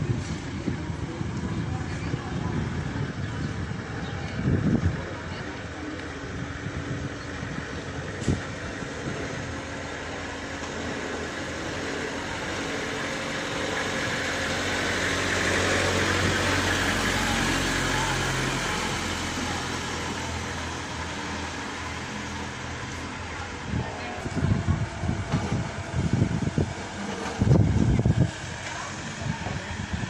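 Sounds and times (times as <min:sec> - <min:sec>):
street noise: 0:00.0 - 0:30.0
vehicle engine running: 0:00.0 - 0:30.0.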